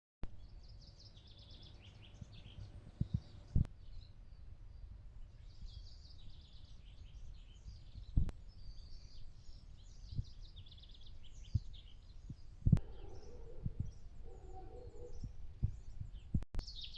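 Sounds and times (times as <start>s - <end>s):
small birds chirping and trilling: 0.4s - 16.9s.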